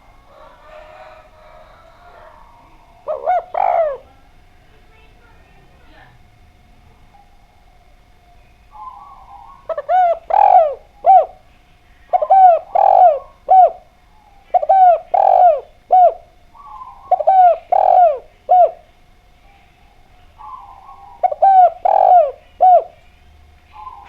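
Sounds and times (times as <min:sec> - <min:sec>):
dove cooing: 0:00.0 - 0:05.9, 0:06.8 - 0:24.0.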